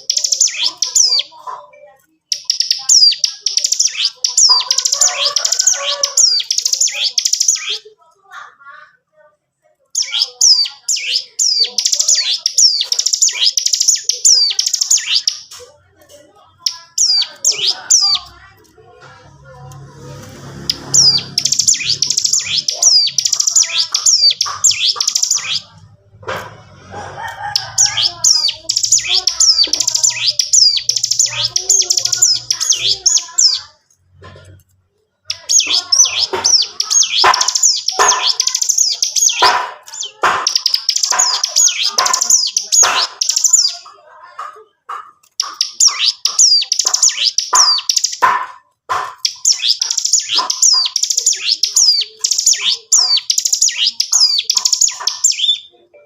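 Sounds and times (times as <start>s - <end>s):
bird chattering song: 0.0s - 7.9s, 9.8s - 15.6s, 16.2s - 34.6s, 35.2s - 56.0s.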